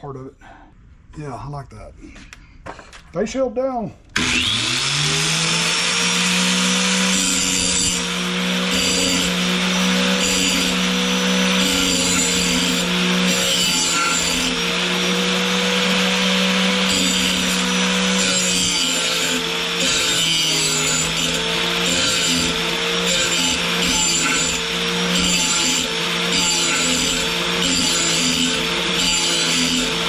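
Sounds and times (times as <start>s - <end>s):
grinding wheel on mower blade: 4.2s - 30.0s.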